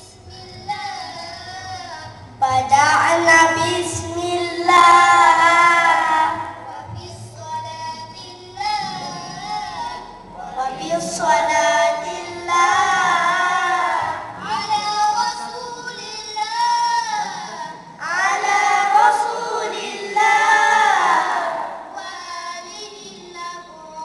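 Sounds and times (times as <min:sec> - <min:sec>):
boys singing together: 0:00.0 - 0:24.0.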